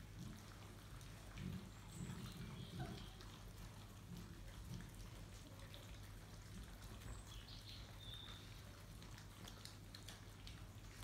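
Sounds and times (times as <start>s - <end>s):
puppies crunching kibble: 0.1s - 11.0s.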